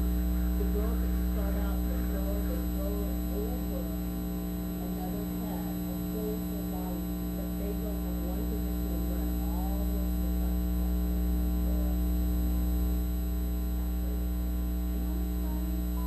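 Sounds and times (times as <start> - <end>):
loud electrical mains hum: 0.0 - 16.0
faint voice: 0.4 - 4.1, 4.8 - 12.8, 13.8 - 16.0.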